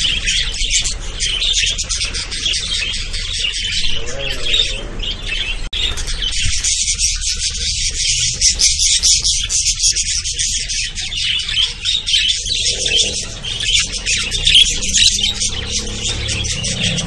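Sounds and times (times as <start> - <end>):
parakeets chattering and squawking: 0.0 - 17.0.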